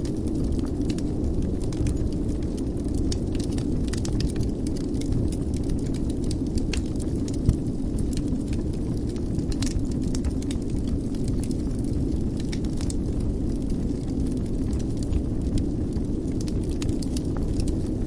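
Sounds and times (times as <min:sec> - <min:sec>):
fire crackling and snapping: 0:00.0 - 0:18.0
fire low rumble: 0:00.0 - 0:18.0.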